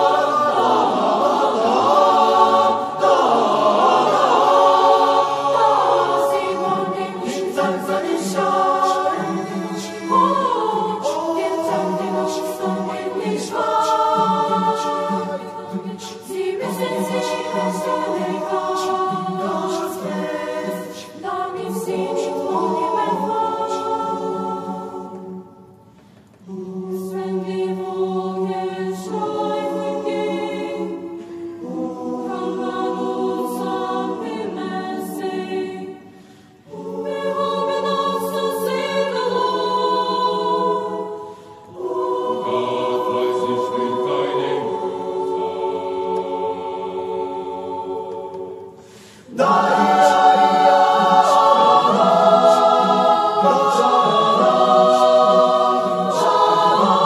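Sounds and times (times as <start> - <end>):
youth choir singing a cappella: 0.0 - 57.0.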